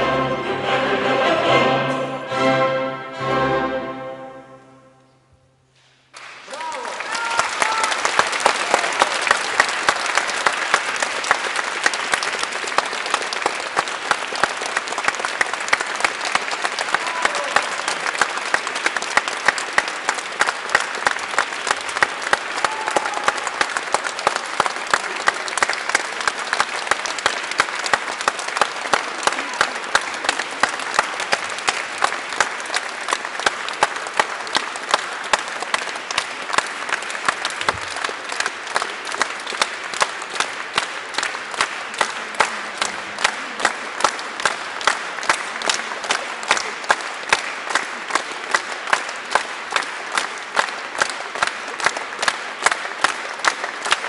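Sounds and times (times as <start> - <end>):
audience applauding: 6.0 - 54.0.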